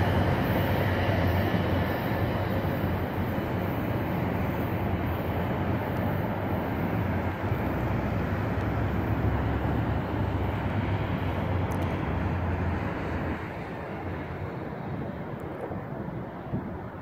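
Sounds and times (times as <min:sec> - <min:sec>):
road traffic: 0:00.0 - 0:17.0
train rumbling: 0:00.0 - 0:17.0.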